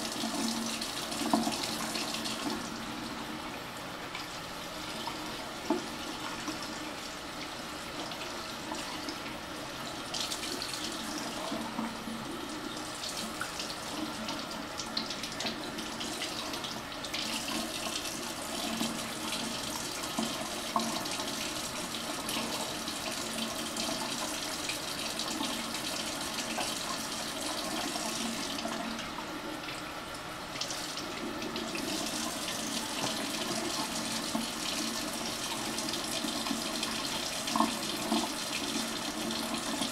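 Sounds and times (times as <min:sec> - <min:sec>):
faucet water pouring into basin: 0:04.2 - 0:29.8, 0:30.5 - 0:39.9.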